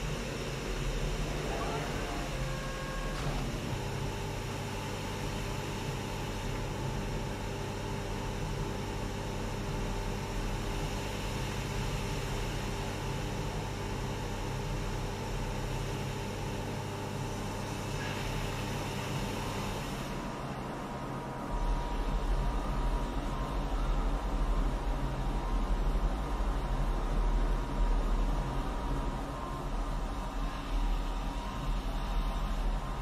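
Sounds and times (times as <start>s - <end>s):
electric conveyor machinery hum: 0.0s - 33.0s.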